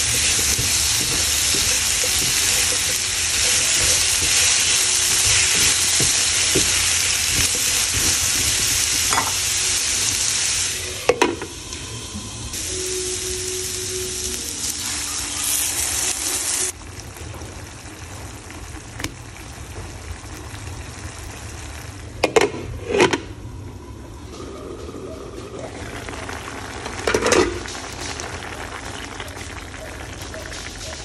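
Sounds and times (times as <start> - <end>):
water sizzling in hot pan: 0.0 - 22.2, 25.4 - 31.0
bubbling simmer: 0.0 - 31.0.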